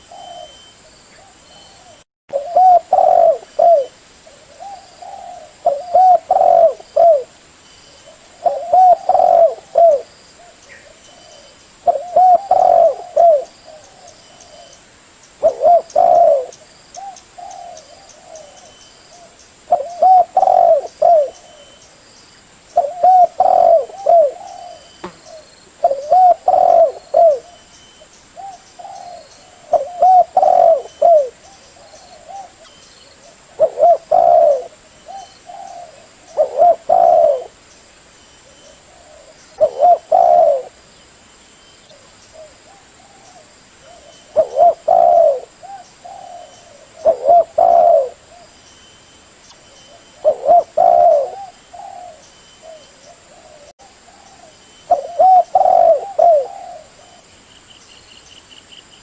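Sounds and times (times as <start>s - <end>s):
dove cooing: 0.0s - 7.4s, 8.1s - 14.8s, 15.4s - 21.8s, 22.8s - 27.7s, 28.4s - 37.6s, 38.4s - 40.8s, 41.9s - 48.5s, 49.9s - 57.3s.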